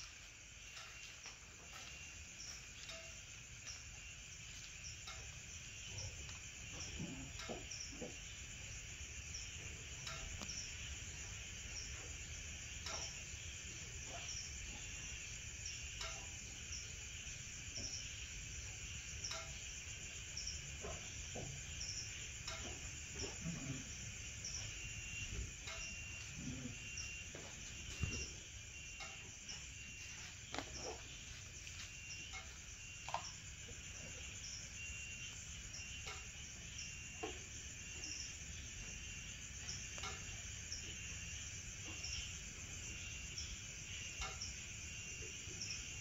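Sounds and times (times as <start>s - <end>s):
night insects chirping: 0.0s - 46.0s.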